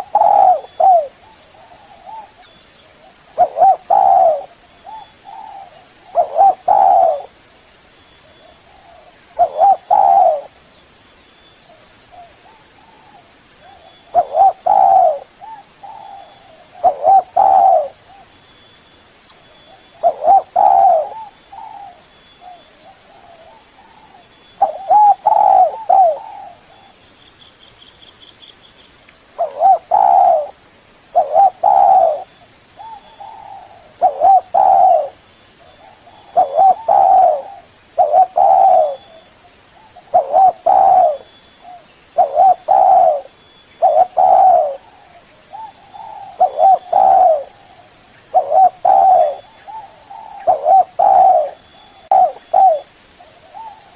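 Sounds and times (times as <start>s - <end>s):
dove cooing: 0.0s - 7.4s, 8.3s - 10.6s, 12.1s - 18.4s, 19.7s - 27.0s, 29.4s - 53.9s.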